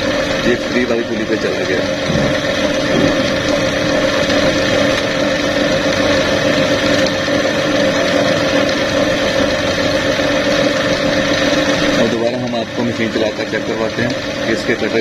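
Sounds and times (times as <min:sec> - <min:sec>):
sewing machine motor humming: 0:00.0 - 0:15.0.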